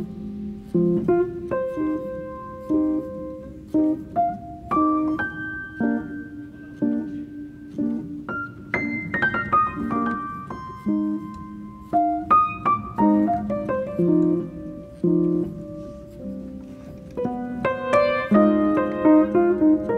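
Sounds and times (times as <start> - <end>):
slow piano music: 0.0 - 19.9.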